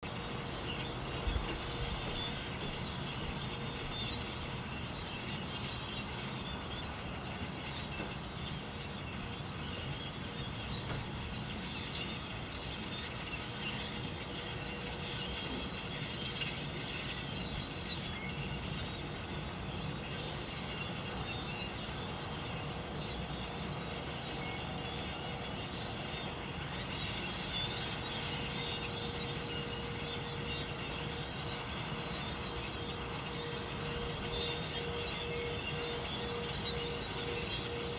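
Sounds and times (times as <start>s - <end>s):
flock of birds chirping: 0.0s - 37.9s
low background noise: 0.0s - 37.9s.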